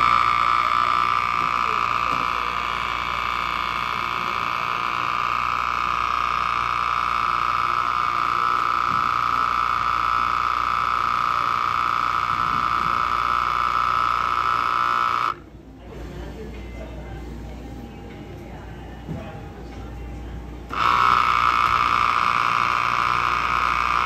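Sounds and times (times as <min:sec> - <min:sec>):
espresso machine whine: 0:00.0 - 0:24.0
low machine hum: 0:00.0 - 0:24.0.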